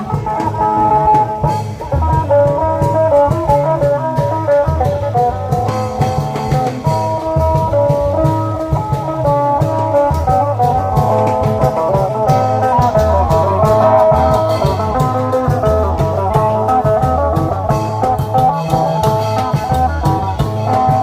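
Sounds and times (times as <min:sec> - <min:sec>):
long drums: 0:00.0 - 0:21.0
plucked string melody: 0:00.0 - 0:21.0.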